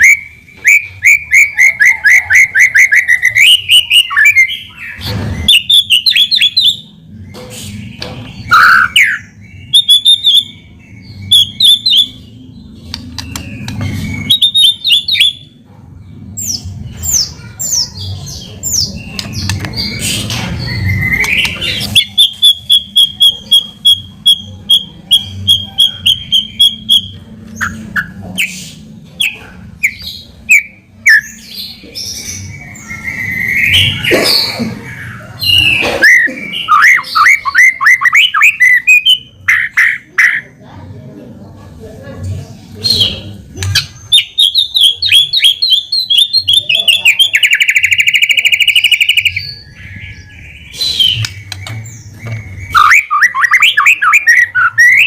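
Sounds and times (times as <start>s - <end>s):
bird singing whistles and chatter: 0.0s - 15.6s, 16.4s - 40.6s, 42.8s - 55.0s.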